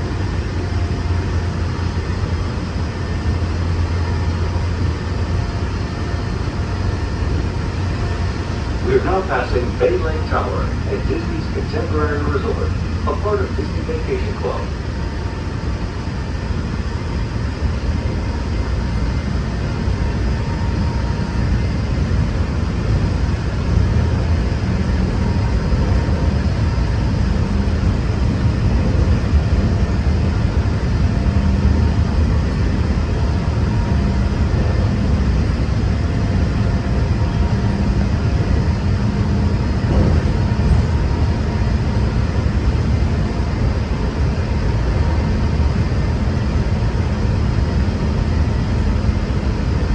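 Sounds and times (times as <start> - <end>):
train low rumble: 0.0 - 49.9.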